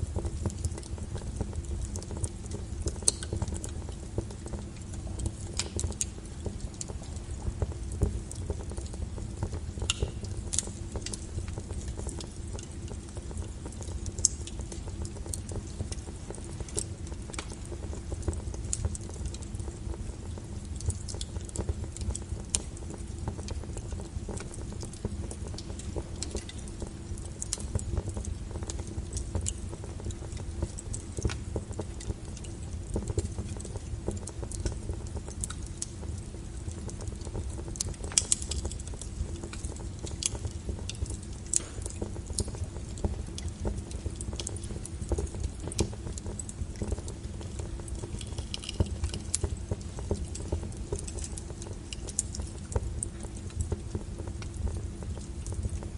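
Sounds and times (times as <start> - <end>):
burning logs crackling and popping: 0.0 - 55.9
low fire rumble: 0.0 - 55.9.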